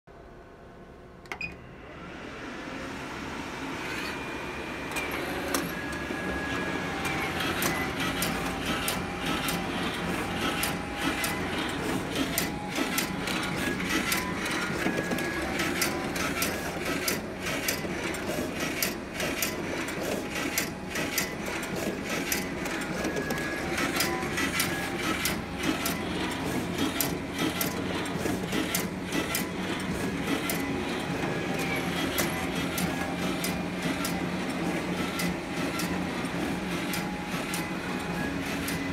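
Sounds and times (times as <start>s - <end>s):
paper cutting machine running: 1.8s - 38.9s
sharp clicks of sheets cut: 6.9s - 38.9s.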